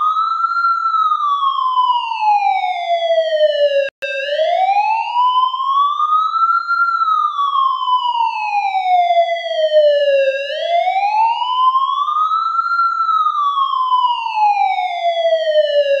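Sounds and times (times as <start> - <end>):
ambulance siren wailing: 0.0 - 16.0.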